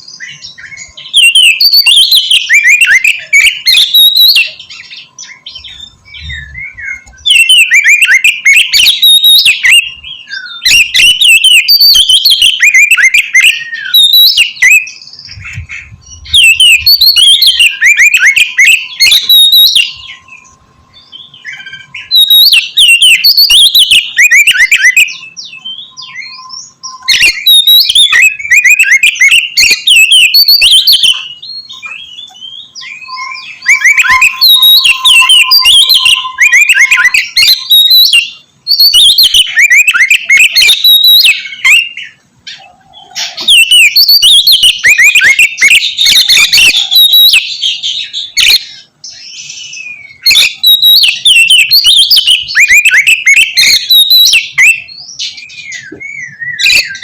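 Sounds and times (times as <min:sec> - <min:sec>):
songbird whistling and chattering: 0:00.0 - 0:57.0.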